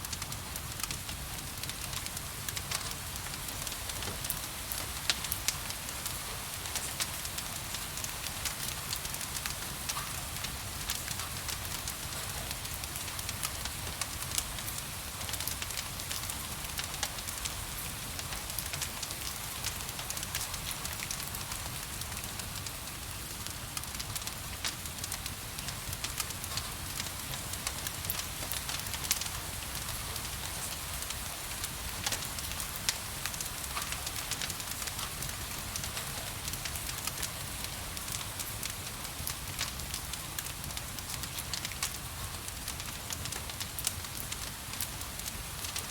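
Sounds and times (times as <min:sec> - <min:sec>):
gentle rain hiss: 0:00.0 - 0:45.9
low rumble of flames: 0:00.0 - 0:45.9
wood fire crackling and popping: 0:00.0 - 0:45.9.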